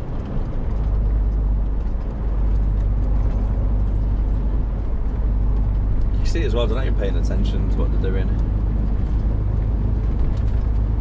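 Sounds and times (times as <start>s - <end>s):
lorry engine drone: 0.0s - 11.0s
road and tyre noise: 0.0s - 11.0s.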